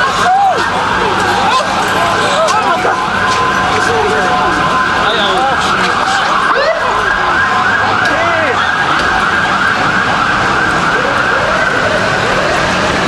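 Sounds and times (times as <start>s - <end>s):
emergency sirens wailing: 0.0s - 13.0s.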